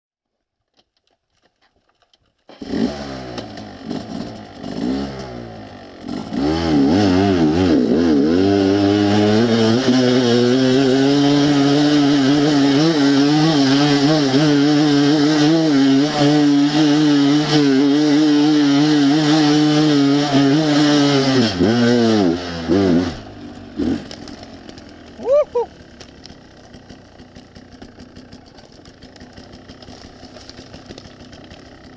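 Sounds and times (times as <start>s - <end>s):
dirt bike engine revving: 2.5s - 31.9s.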